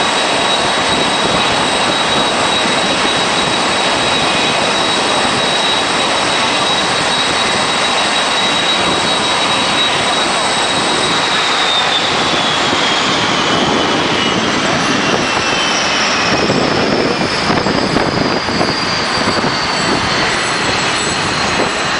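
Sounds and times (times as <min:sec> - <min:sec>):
high jet engine whine: 0:00.0 - 0:21.9
jet engines running: 0:00.0 - 0:21.9.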